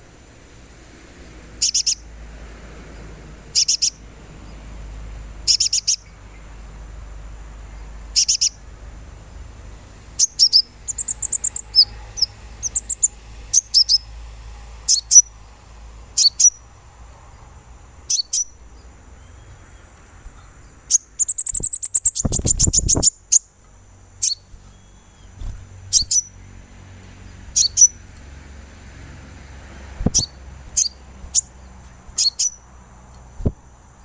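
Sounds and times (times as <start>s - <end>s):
bird chirping: 1.2s - 2.1s, 2.9s - 33.5s.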